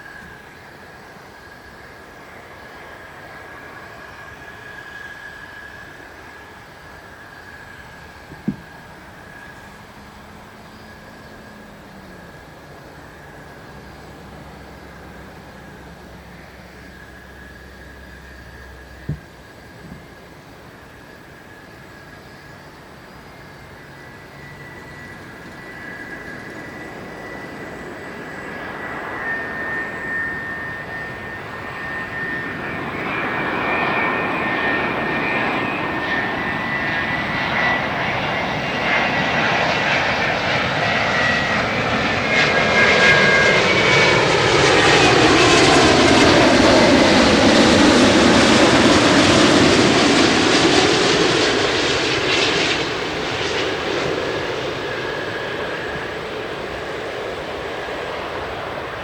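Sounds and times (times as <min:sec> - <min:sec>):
jet airliner passing by: 0:00.0 - 0:59.0.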